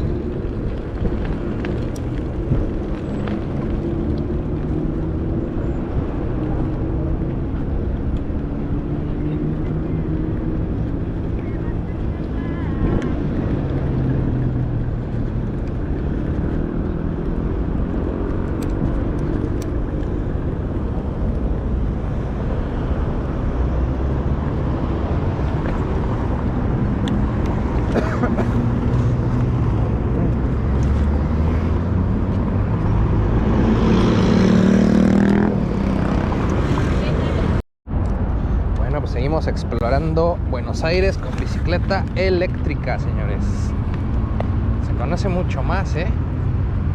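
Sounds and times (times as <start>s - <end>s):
loud vehicle passing: 0.0s - 37.6s, 39.8s - 46.9s
road traffic rumble: 0.0s - 46.9s.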